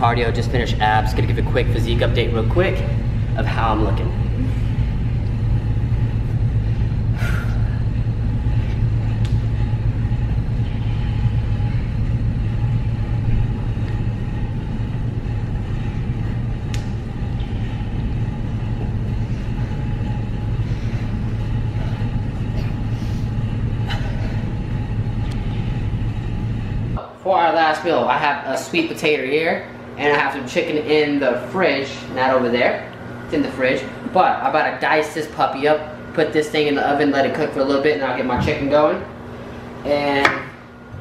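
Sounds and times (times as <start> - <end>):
low rumble of gym noise: 0.0 - 41.0.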